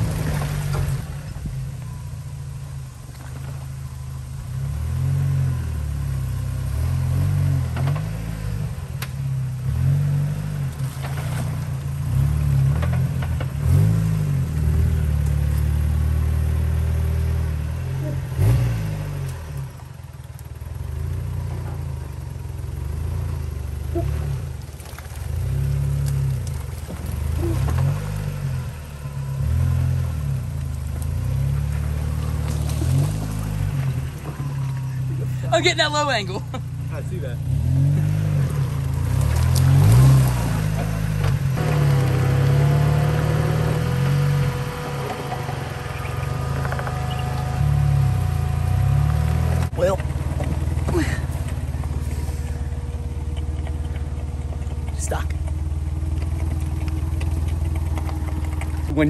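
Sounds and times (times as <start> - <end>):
off-road vehicle engine: 0.0 - 59.0.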